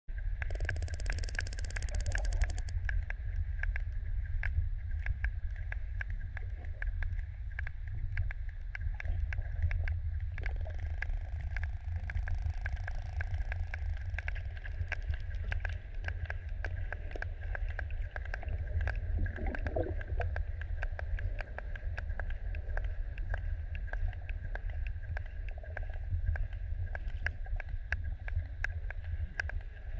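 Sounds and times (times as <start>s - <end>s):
low rumble of water: 0.1s - 29.9s
sperm whale clicks: 0.2s - 29.9s.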